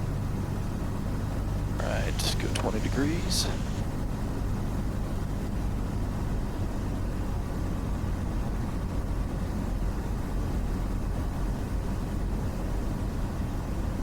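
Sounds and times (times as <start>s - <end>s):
propeller airplane engine droning: 0.0s - 14.0s.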